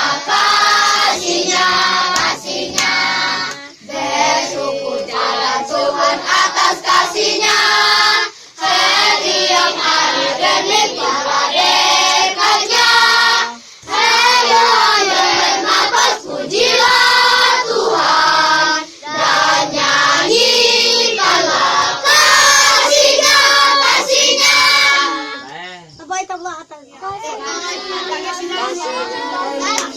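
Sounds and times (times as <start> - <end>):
choir singing: 0.0 - 25.6, 27.4 - 29.9.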